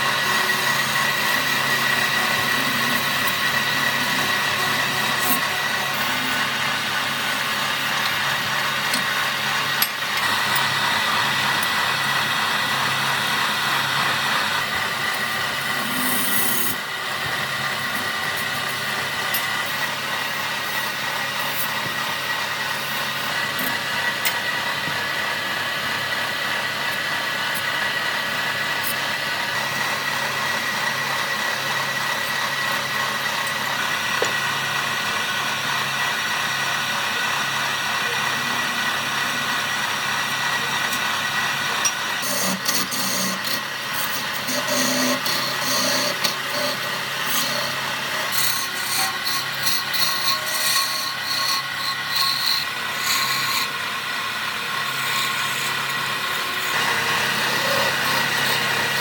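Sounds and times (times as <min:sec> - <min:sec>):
power tool working wood: 0:00.0 - 0:59.0.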